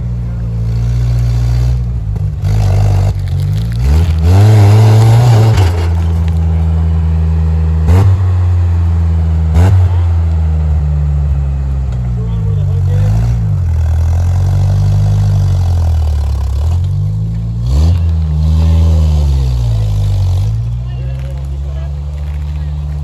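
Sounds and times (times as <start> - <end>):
pickup truck engine revving: 0.0 - 23.0.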